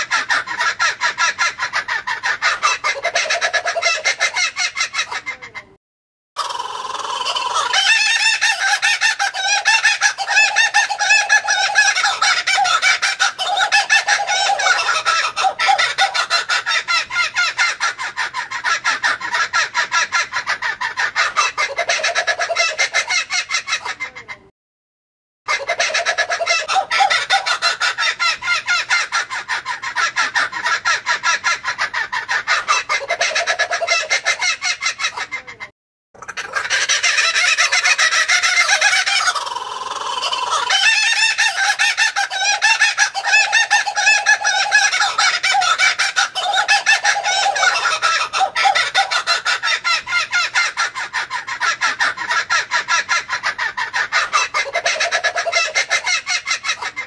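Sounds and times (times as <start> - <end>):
kookaburra laughing calls: 0.0 - 5.7, 6.4 - 24.4, 25.5 - 57.0.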